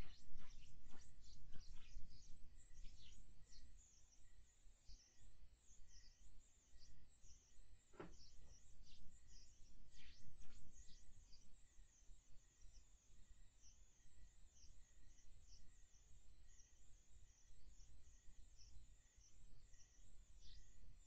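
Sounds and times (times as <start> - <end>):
dense high chirping of insects: 0.0 - 21.0.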